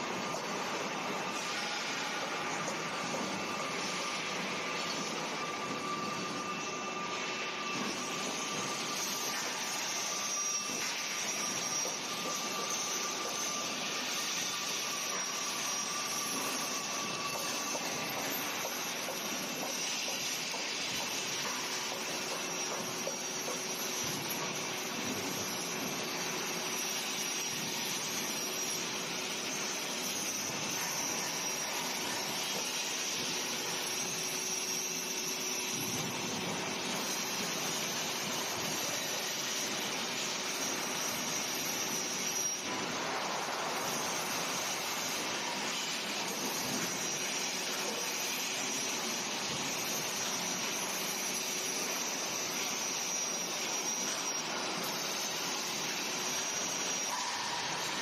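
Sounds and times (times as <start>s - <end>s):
angle grinder grinding steel: 0.8s - 58.0s.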